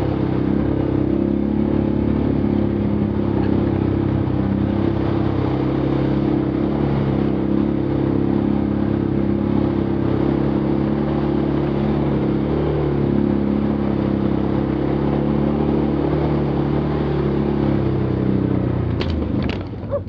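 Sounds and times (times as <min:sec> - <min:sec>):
vehicle engine running steadily: 0:00.0 - 0:20.0.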